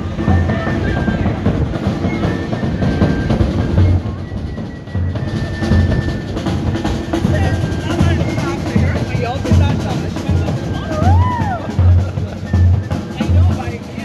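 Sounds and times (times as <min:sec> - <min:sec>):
penny whistle notes: 0:00.0 - 0:09.8, 0:12.3 - 0:14.0
snare drum rolling: 0:00.0 - 0:14.0.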